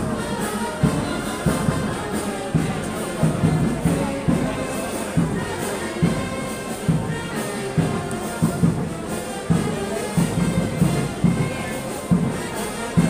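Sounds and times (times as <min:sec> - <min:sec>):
drum beat: 0:00.0 - 0:12.4
brass band playing: 0:00.0 - 0:13.0.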